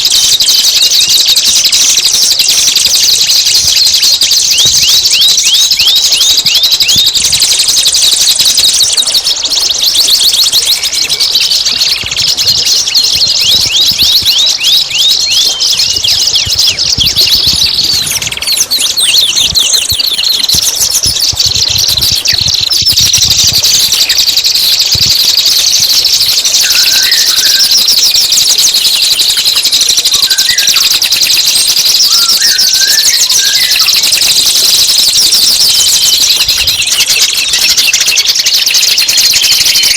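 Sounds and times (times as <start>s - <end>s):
lower bird chirps: 0.0s - 39.9s
songbird rapid chatter: 0.0s - 39.9s.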